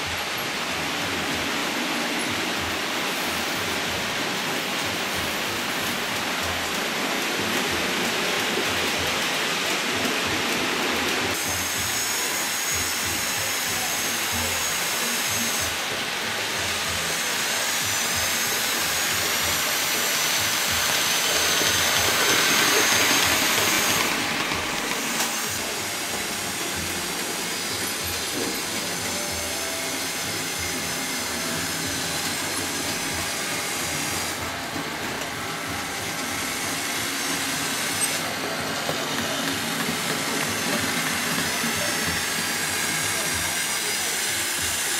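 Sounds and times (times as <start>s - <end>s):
model train wheels rumbling: 0.0s - 44.9s.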